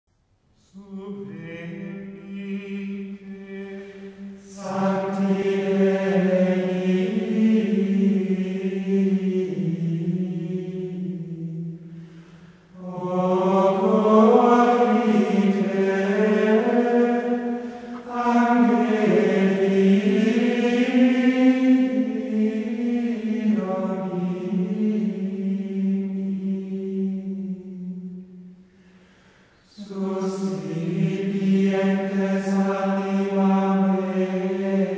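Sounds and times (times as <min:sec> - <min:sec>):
slow vocal chant: 0:00.6 - 0:34.9.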